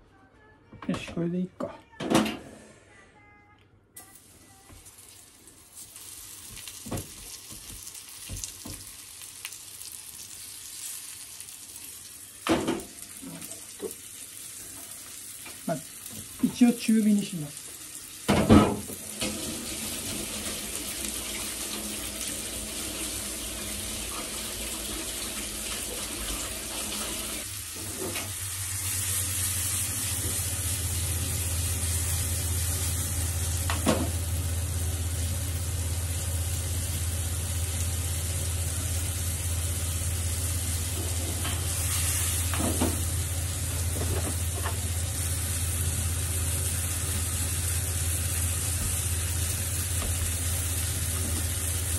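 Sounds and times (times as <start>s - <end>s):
fruit slices sizzling in oil: 4.1s - 51.9s.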